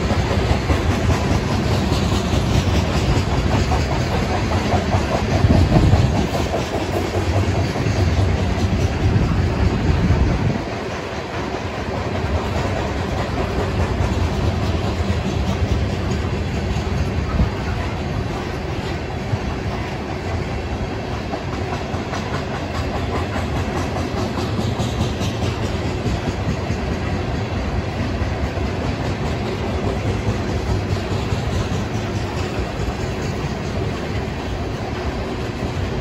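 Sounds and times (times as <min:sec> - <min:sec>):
light clicking of train wheels: 0:00.0 - 0:36.0
train wheels rumbling on rail: 0:00.0 - 0:36.0.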